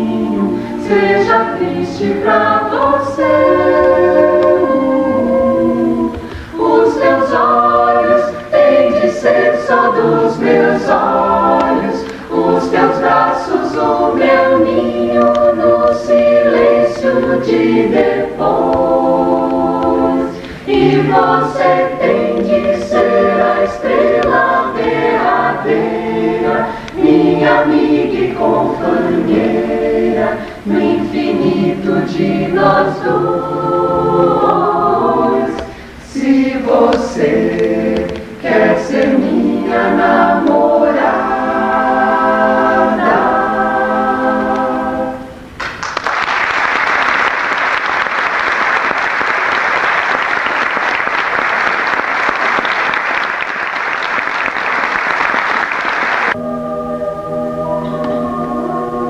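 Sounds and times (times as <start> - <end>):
choir singing in harmony: 0.0 - 45.6, 53.9 - 59.0.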